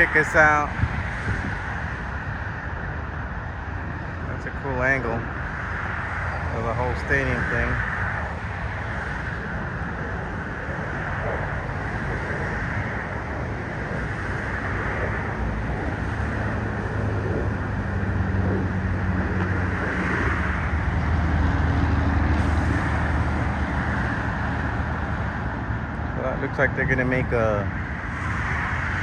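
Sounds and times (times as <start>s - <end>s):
road traffic noise: 0.0s - 29.0s
vehicle engine rumble: 0.0s - 29.0s.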